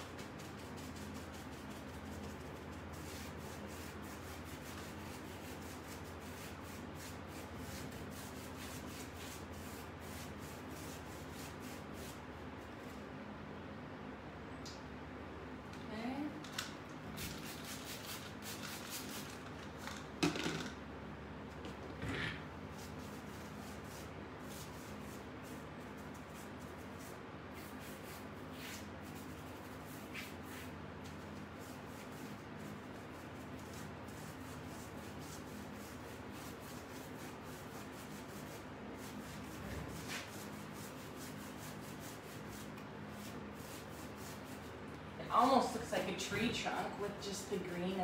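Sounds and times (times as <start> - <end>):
paintbrush scrubbing surface: 0.0 - 13.0, 17.2 - 19.4, 22.7 - 47.3.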